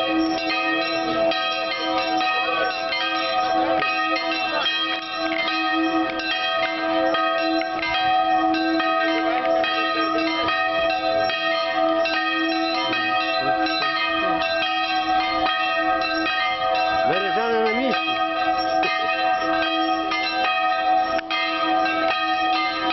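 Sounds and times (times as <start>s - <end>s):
church bells ringing: 0.0s - 22.9s.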